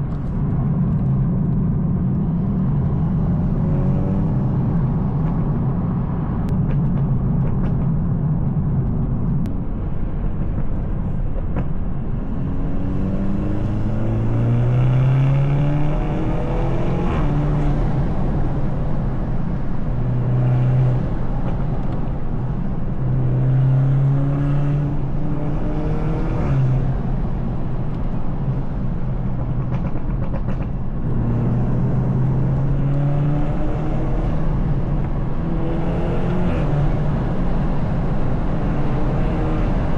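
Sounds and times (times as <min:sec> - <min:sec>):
car engine accelerating: 0:00.0 - 0:39.9
tyre and road rumble: 0:00.0 - 0:39.9.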